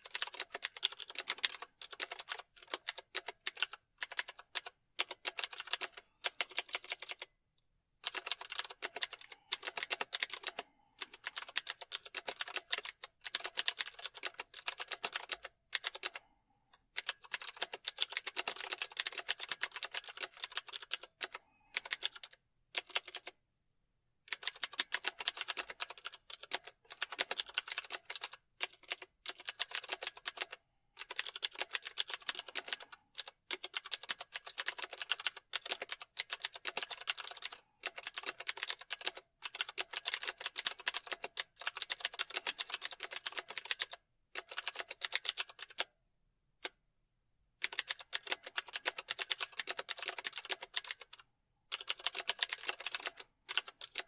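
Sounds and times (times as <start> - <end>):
typing on computer keyboard: 0.0 - 7.3, 8.0 - 23.4, 24.3 - 45.9, 47.6 - 54.0.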